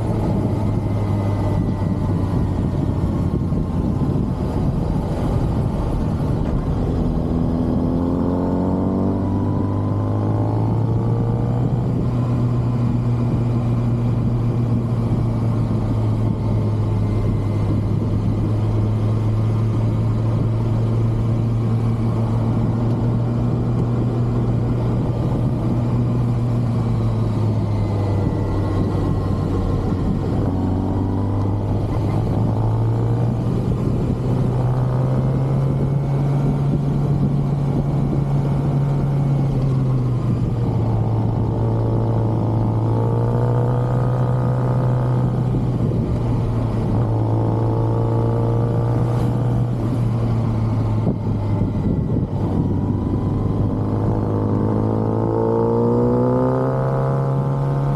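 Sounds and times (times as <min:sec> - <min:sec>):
motorcycle engine cruising: 0:00.0 - 0:57.9
wind and road noise: 0:00.0 - 0:57.9.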